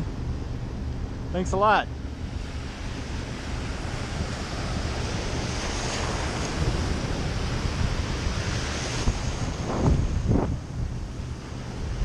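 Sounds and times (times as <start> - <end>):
boat wake washing against kayak: 0.0 - 12.0
wind buffeting microphone: 0.0 - 12.0.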